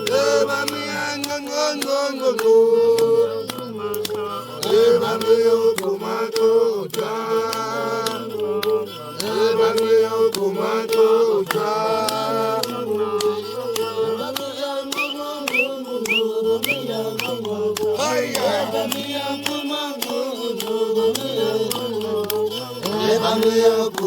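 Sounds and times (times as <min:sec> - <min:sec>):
chant-like melody: 0:00.0 - 0:24.0
light clicking percussion: 0:00.0 - 0:24.0.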